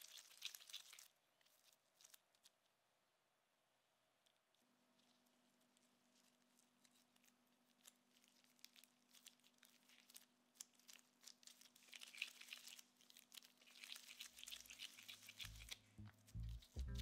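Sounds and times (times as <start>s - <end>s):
gloved hands kneading dough: 0.0s - 17.0s.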